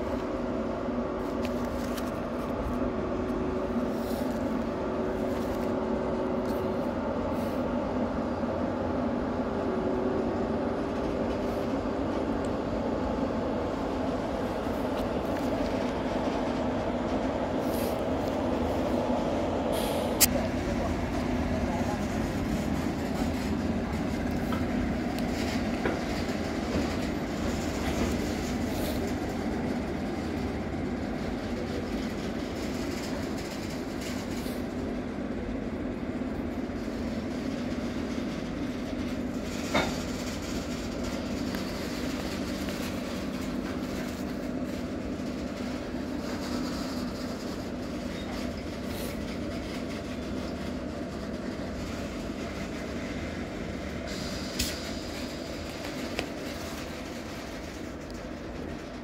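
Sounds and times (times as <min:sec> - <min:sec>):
freight train wheels rolling: 0:00.0 - 0:59.0.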